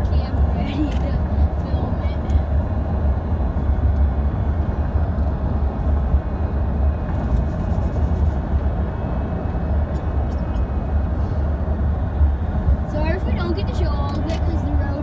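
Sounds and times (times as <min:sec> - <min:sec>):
road and engine rumble inside car: 0:00.0 - 0:15.0.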